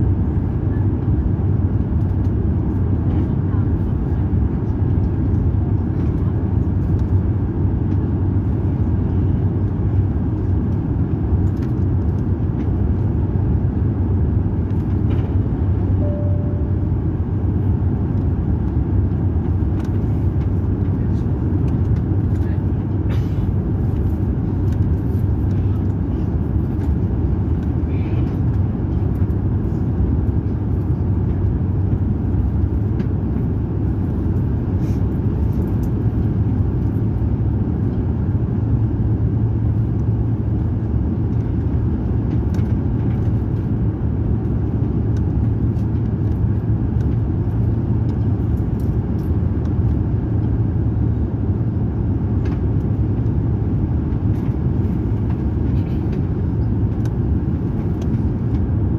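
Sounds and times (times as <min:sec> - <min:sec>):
airplane cabin roar: 0:00.0 - 0:58.9.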